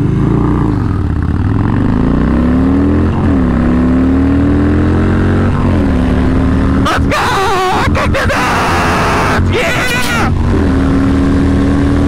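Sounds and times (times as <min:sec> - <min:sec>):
motorcycle engine at full throttle: 0:00.0 - 0:12.0.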